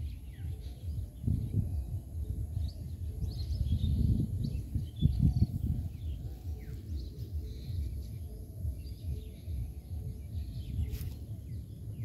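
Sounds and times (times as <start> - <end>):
faint birds chirping: 0.0 - 12.0
low rumble on microphone: 0.0 - 12.0.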